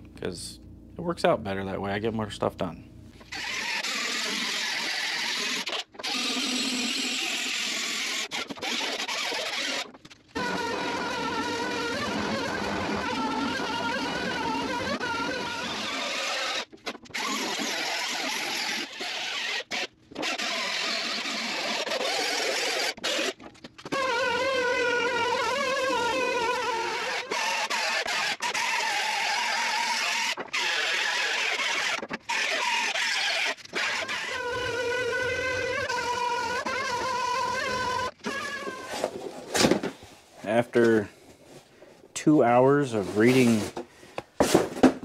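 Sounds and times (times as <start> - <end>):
grinder motor whining: 3.2 - 39.3.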